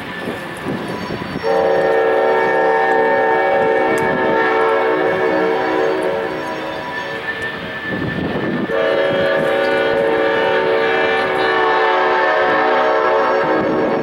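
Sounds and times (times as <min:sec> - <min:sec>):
locomotive engine rumble: 0:00.0 - 0:14.0
locomotive horn blowing: 0:01.4 - 0:14.0.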